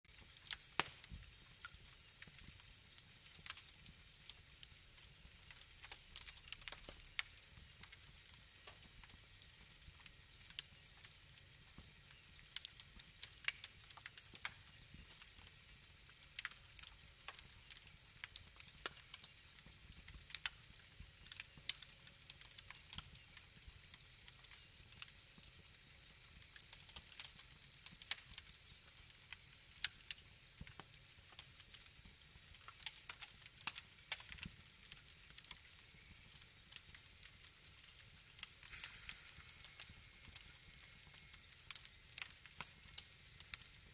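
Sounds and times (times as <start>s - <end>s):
faint low hiss: 0.1s - 43.9s
wood fire crackling: 0.1s - 43.9s.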